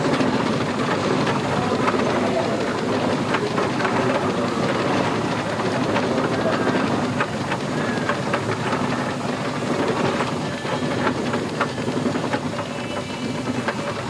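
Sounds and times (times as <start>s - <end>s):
engine low hum: 0.0s - 14.0s
steam hissing: 0.0s - 14.0s.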